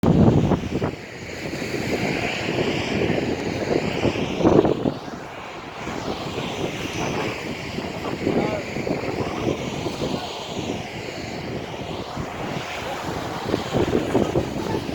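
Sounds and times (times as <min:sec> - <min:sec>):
jet airliner engine roar: 0:00.0 - 0:14.9.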